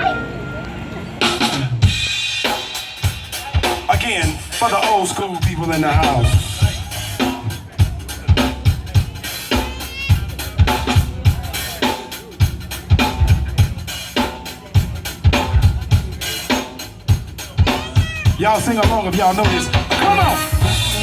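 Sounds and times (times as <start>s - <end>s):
live band playing r and b groove: 0.0s - 21.0s.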